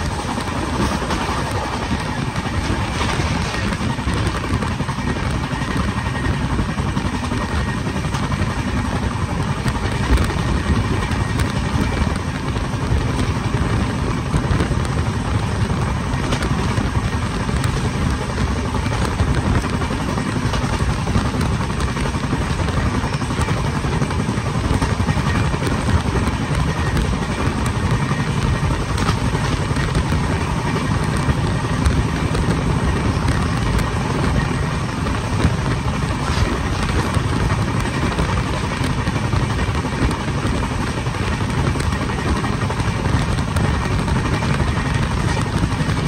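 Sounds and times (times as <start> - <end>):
train rumbling at speed: 0.0 - 46.0.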